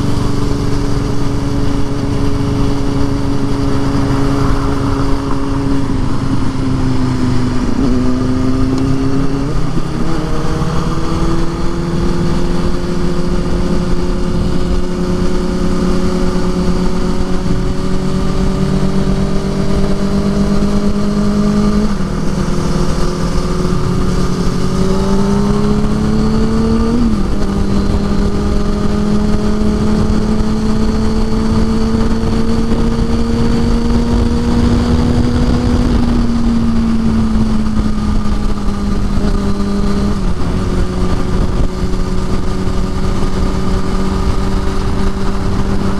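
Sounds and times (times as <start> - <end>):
motorcycle engine running: 0.0 - 45.9
wind rumble: 0.0 - 45.9.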